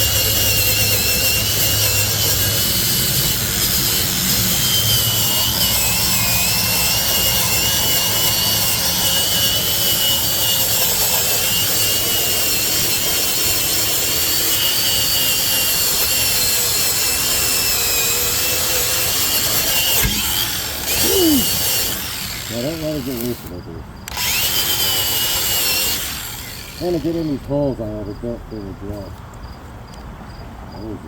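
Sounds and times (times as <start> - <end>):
angle grinder grinding metal: 0.0 - 29.1.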